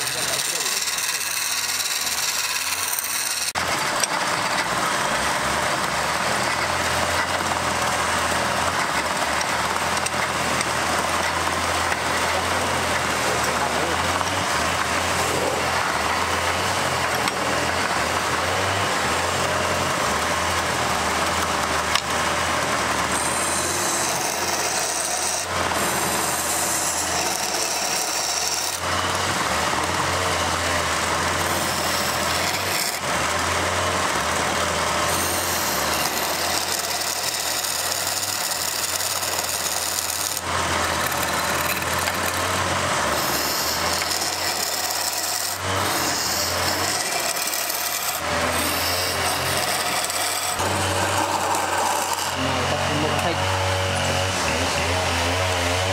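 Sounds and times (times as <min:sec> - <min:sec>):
turning tool scraping wood: 0:00.0 - 0:55.9
wood lathe humming: 0:00.0 - 0:55.9.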